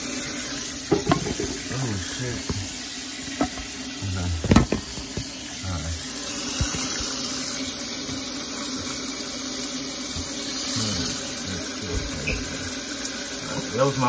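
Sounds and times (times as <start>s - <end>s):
faucet spray running into sink: 0.0s - 14.0s.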